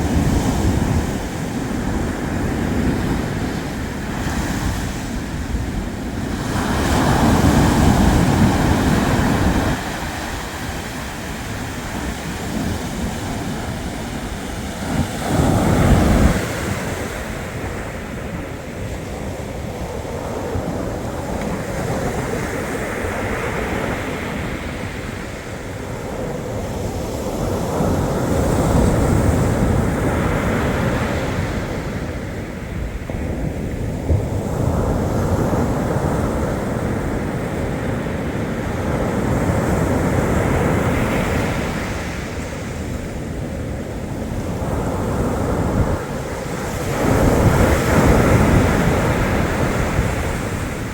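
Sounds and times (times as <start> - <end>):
waves washing onto shore: 0.0 - 50.9.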